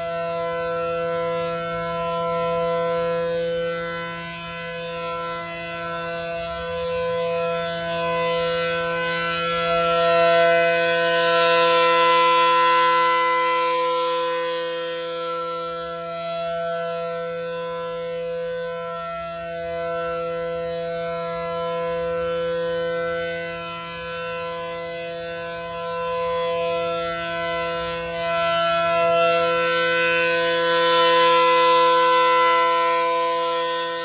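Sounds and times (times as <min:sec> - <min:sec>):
rotating warning siren: 0:00.0 - 0:34.0.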